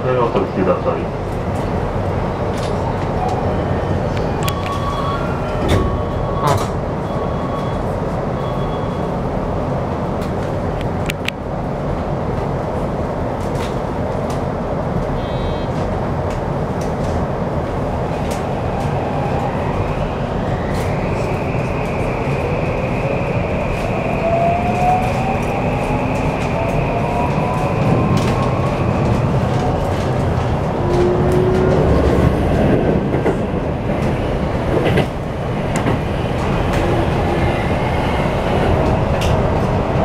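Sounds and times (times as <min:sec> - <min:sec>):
train car rumble: 0:00.0 - 0:40.0.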